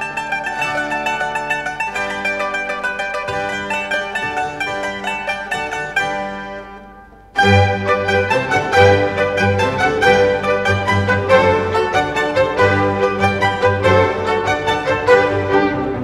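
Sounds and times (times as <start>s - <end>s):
music of quickly repeated notes: 0.0s - 16.0s.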